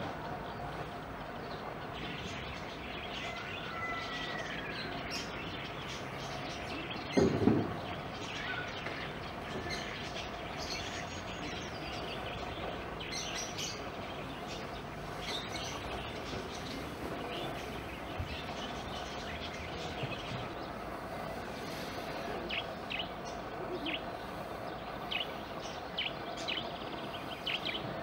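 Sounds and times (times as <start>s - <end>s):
birds chirping: 0.0s - 28.0s
outdoor background noise: 0.0s - 28.0s.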